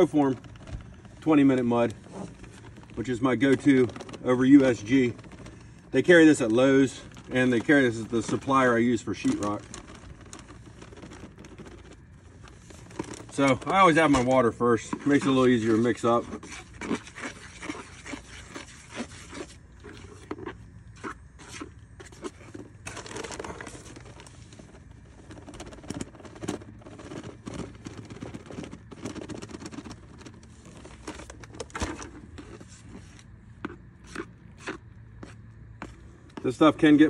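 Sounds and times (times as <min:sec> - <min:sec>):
paper bag crinkling: 0:00.0 - 0:35.5.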